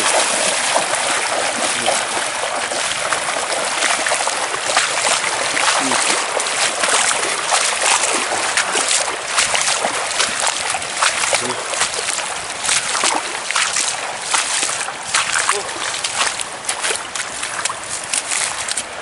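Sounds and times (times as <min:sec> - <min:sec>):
river water rushing: 0:00.0 - 0:19.0
water splashing: 0:00.0 - 0:19.0.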